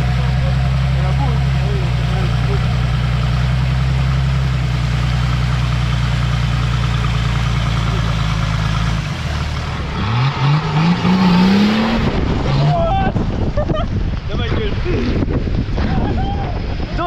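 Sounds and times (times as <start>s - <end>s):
engine idling and revving: 0.0s - 15.8s.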